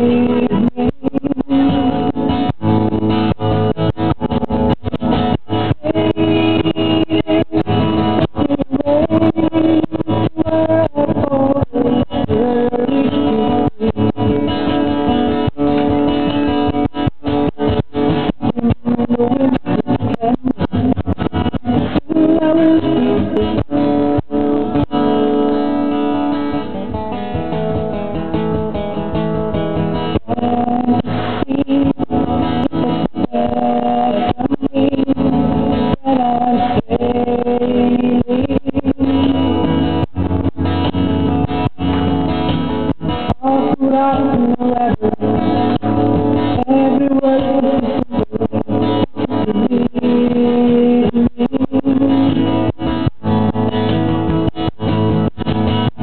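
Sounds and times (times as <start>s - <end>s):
acoustic guitar song: 0.0s - 56.0s.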